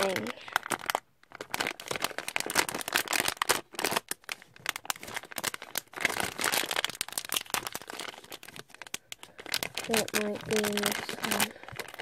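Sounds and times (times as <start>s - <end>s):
plastic foil bag crinkling: 0.0s - 12.0s.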